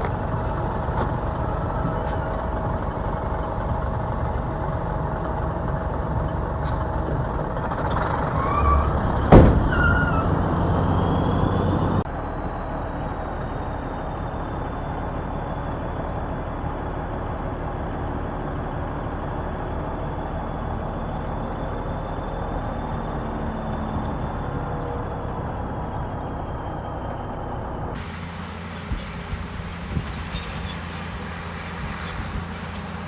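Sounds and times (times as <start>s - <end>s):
heavy machinery diesel engine: 0.0s - 8.4s, 10.4s - 33.0s.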